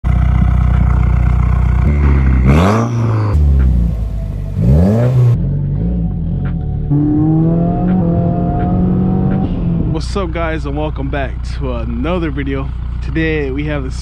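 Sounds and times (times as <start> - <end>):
car engine revving: 0.1 - 14.0.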